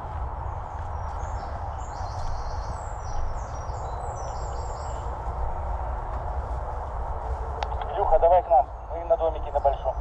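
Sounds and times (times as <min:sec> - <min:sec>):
birds chirping: 0:00.0 - 0:10.0
low outdoor rumble: 0:00.0 - 0:10.0.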